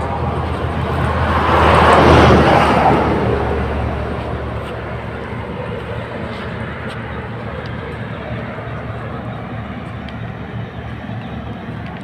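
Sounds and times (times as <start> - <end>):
rush of noise: 0.0 - 12.0
truck engine droning: 0.0 - 12.0.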